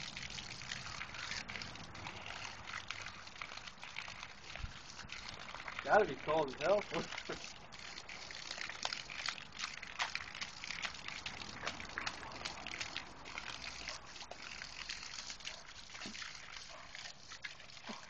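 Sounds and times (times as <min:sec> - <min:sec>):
dog biting at water jet: 0:00.0 - 0:18.0
hose water splashing onto grass: 0:00.0 - 0:18.0.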